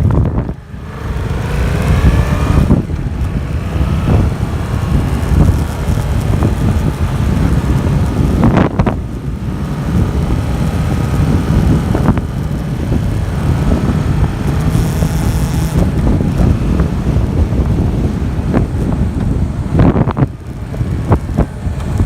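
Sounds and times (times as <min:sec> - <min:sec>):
motorcycle engine: 0:00.0 - 0:22.0
wind noise on microphone: 0:00.0 - 0:22.0.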